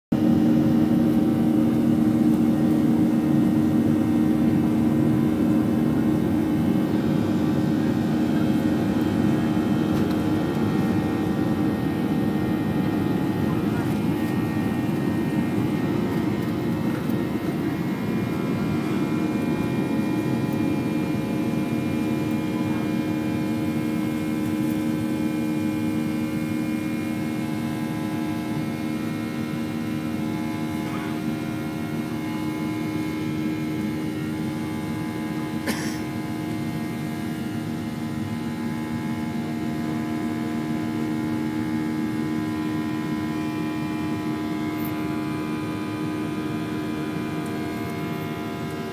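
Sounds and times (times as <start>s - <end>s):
jet engines roaring in cabin: 0.2s - 48.9s.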